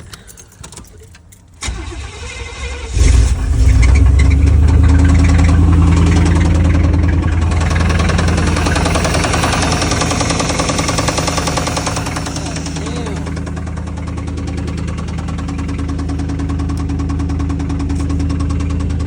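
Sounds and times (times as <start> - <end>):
car engine cranking: 0.0 - 19.0
car engine idling: 0.0 - 19.0.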